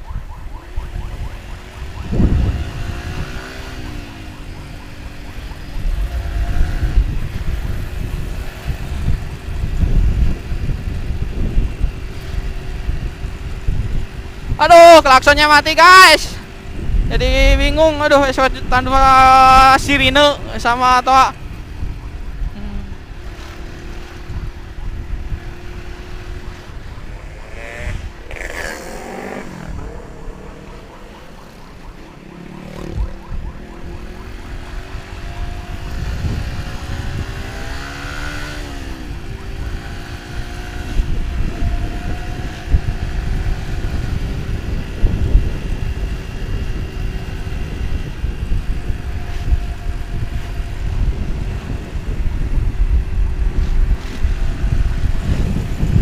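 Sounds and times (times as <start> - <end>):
motorcycle running: 0.0 - 56.0
wind and road noise: 0.0 - 56.0.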